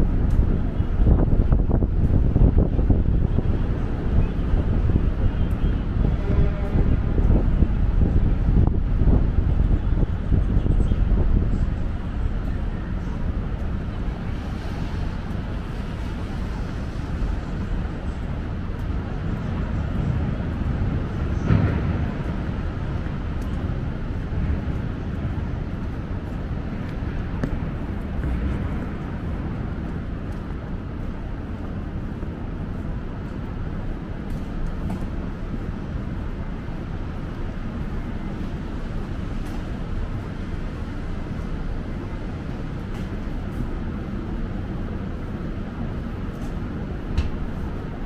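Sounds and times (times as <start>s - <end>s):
low traffic rumble: 0.0s - 48.0s.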